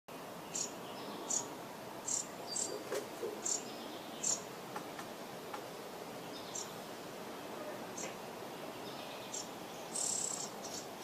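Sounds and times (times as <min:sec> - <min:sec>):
steady background hiss: 0:00.1 - 0:11.0.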